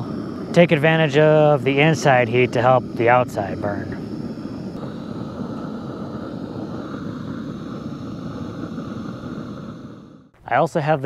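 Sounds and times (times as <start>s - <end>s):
propane torch burning: 0.0s - 11.0s.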